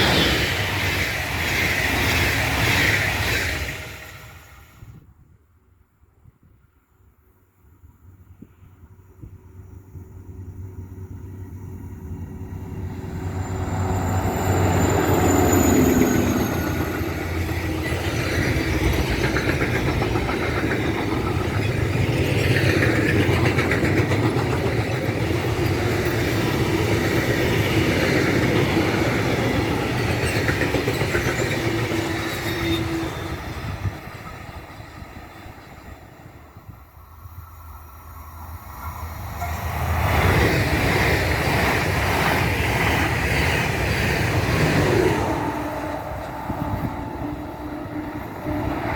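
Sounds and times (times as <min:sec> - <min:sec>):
locomotive passing: 0:00.0 - 0:04.8, 0:08.8 - 0:48.9.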